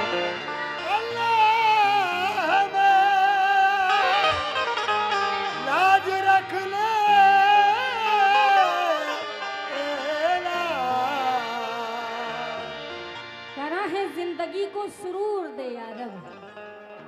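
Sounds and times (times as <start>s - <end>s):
wavering lead melody: 0.0s - 17.0s.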